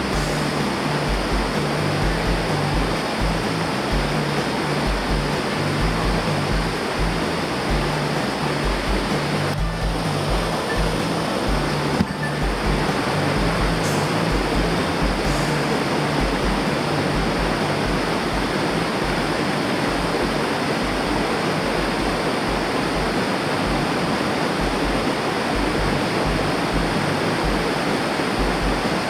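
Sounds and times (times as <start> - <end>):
stream rushing over boulders: 0.0 - 29.0.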